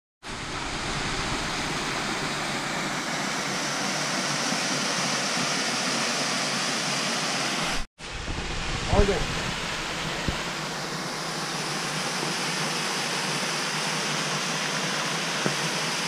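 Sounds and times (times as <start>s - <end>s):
waterfall splashing into pool: 0.3s - 16.0s.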